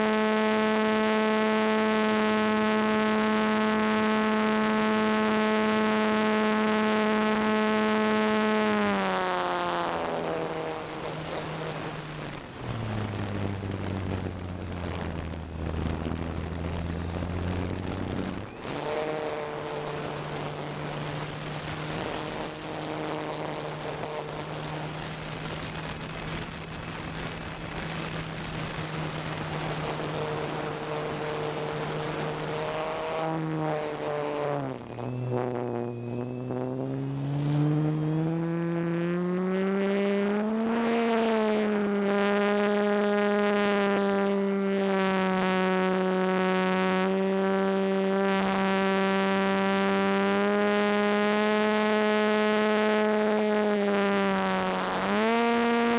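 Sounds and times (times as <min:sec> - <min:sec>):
electric motor and propeller whining: 0:00.0 - 0:55.9.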